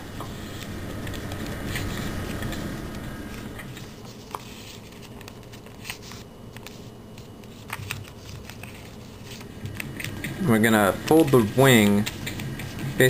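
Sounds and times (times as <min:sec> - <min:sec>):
paper being folded and creased: 0:00.5 - 0:02.6, 0:03.3 - 0:13.0.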